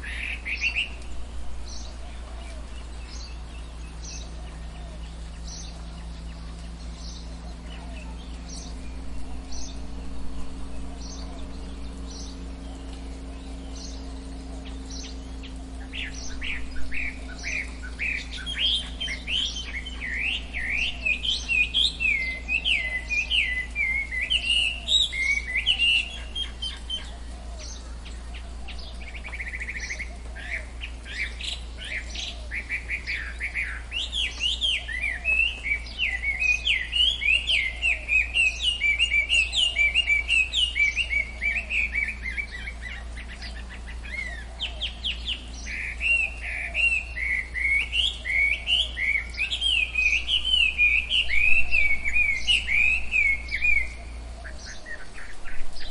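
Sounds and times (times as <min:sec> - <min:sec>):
birds chirping: 0:00.0 - 0:55.9
steady low hum: 0:00.0 - 0:55.9.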